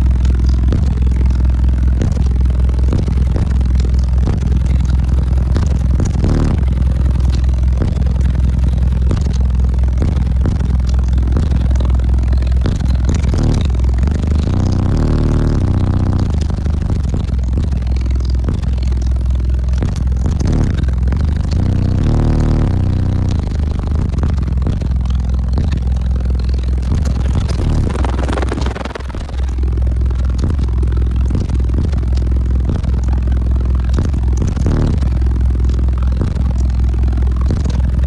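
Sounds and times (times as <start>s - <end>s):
distorted deep bass of rap track: 0.0s - 38.0s.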